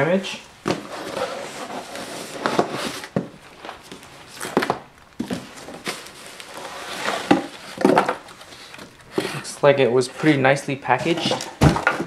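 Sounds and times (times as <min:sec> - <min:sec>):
cardboard rustling and scraping: 0:00.6 - 0:12.0.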